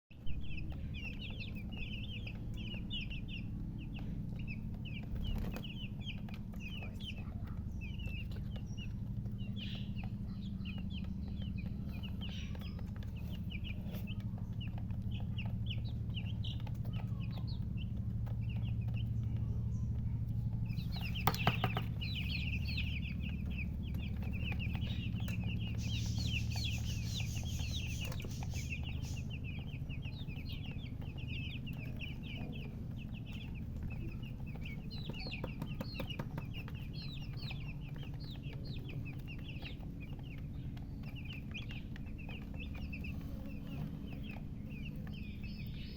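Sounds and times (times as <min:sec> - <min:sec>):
chicks peeping: 0:00.1 - 0:45.9
steady low hum: 0:00.1 - 0:45.9.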